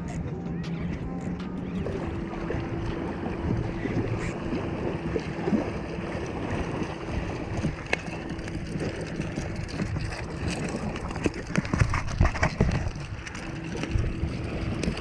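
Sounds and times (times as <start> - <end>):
wind on microphone: 0.0 - 15.0
small waves lapping: 0.8 - 15.0.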